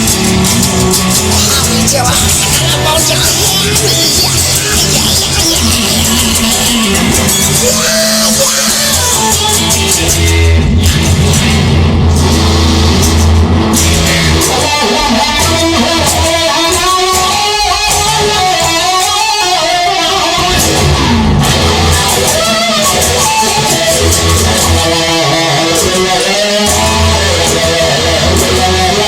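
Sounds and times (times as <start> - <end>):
bass guitar: 0.0 - 29.0
drums: 0.0 - 29.0
electric guitar lead: 0.0 - 29.0
rhythm guitar strumming: 0.0 - 29.0.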